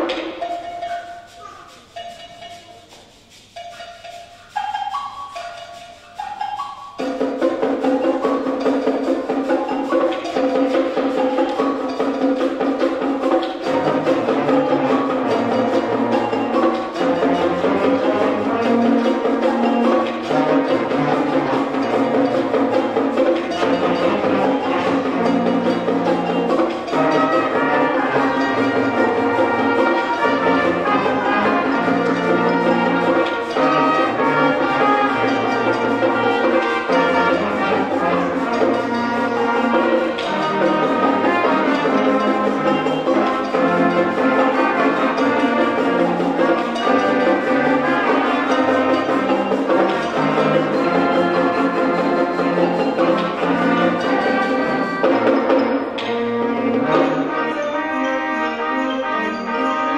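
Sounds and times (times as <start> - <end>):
concert band playing: 0.0 - 59.9.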